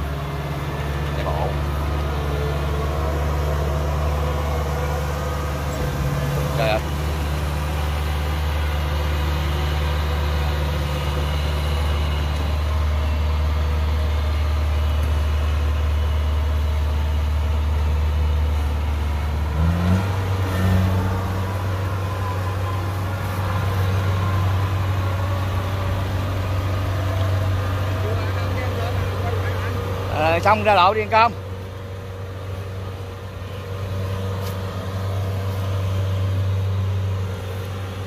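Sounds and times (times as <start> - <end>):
combine harvester diesel engine: 0.0 - 38.0.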